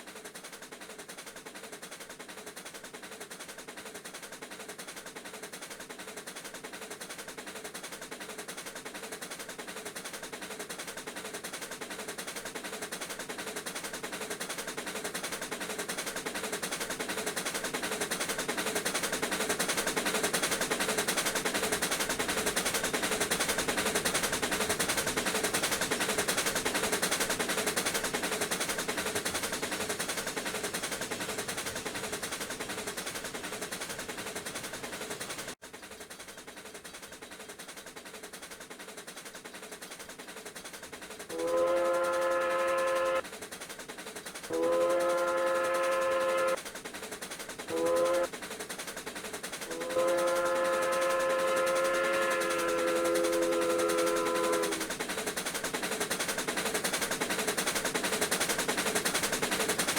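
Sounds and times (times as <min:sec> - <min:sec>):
steam locomotive exhaust chuffing: 0:00.0 - 0:59.9.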